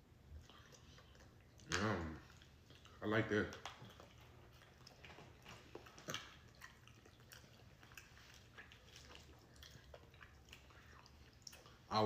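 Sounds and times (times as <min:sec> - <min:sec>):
close-up chewing: 0:00.0 - 0:12.0.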